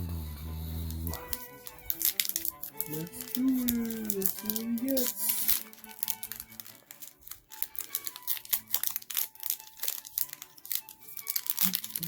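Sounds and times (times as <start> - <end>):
background music: 0.0 - 12.0
foil wrapper crinkling and tearing: 0.7 - 12.0.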